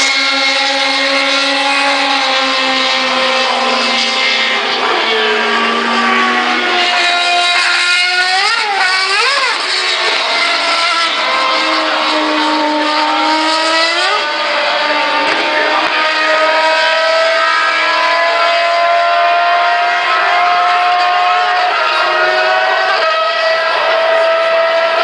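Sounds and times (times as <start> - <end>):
race car engines accelerating: 0.0 - 25.0.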